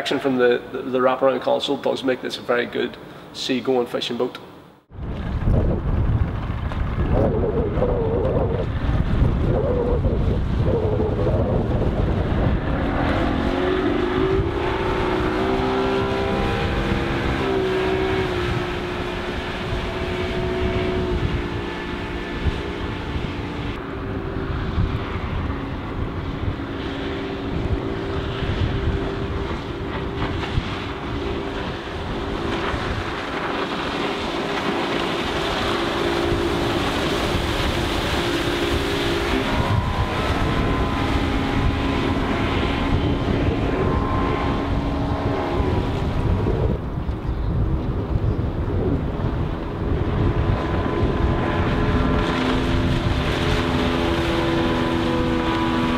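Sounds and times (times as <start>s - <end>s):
outboard engine running: 4.8s - 55.9s.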